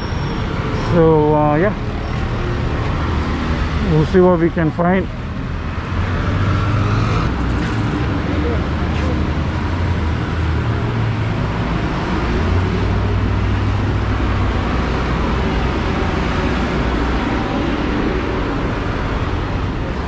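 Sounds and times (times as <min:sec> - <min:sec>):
busy road traffic: 0:00.0 - 0:20.0.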